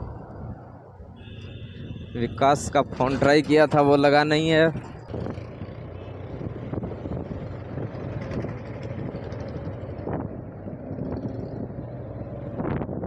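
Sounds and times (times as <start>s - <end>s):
wind noise on microphone: 0.0s - 3.9s, 4.6s - 13.0s
vehicle engine running: 1.2s - 13.0s.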